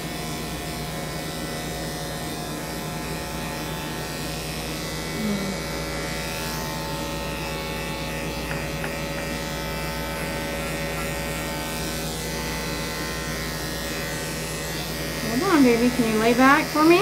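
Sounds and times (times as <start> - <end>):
electric clipper buzzing: 0.0 - 17.0.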